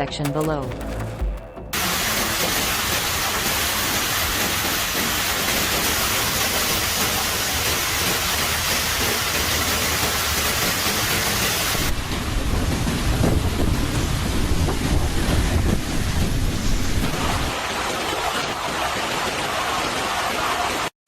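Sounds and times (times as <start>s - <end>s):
rushing hiss of water: 1.8s - 20.9s.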